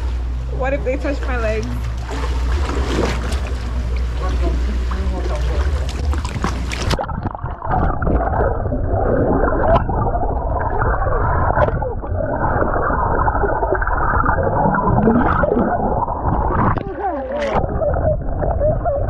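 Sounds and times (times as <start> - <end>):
water churning from fins kicking: 1.3 - 19.0
water splashing at the surface: 1.7 - 17.9
bubbles gurgling underwater: 2.0 - 19.0.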